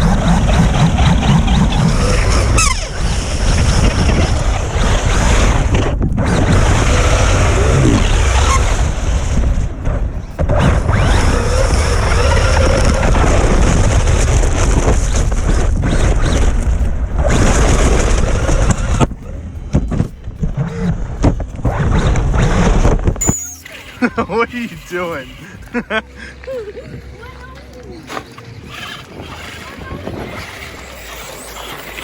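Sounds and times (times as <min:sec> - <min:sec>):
wavering motor whine: 0:00.0 - 0:19.4, 0:20.4 - 0:26.1, 0:28.2 - 0:32.0
rumble and wind noise: 0:00.0 - 0:32.0.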